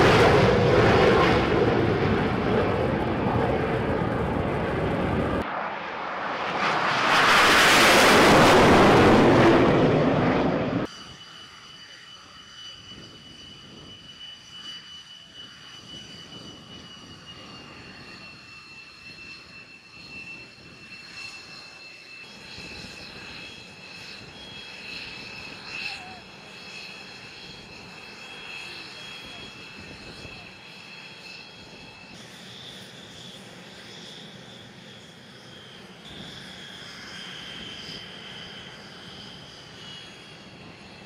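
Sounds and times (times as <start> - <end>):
high-pitched jet whine idling: 0.0 - 41.0
jet engine rushing past: 0.0 - 41.0.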